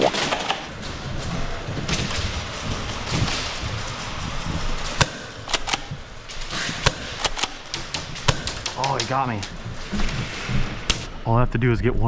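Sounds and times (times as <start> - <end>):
noisy background: 0.0 - 12.0.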